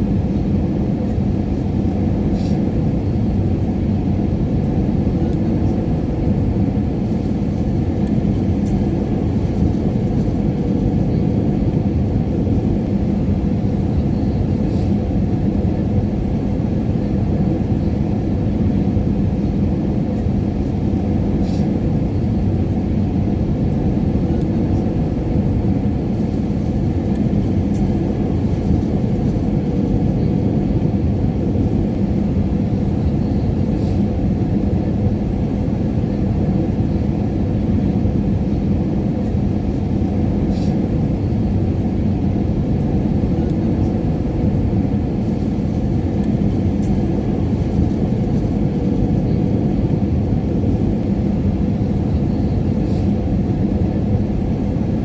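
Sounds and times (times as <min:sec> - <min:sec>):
airliner engine drone: 0:00.0 - 0:55.0
faint hum: 0:00.0 - 0:55.0.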